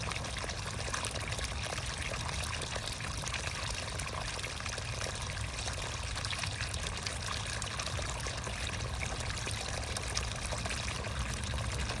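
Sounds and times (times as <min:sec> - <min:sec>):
creek water babbling: 0:00.0 - 0:12.0.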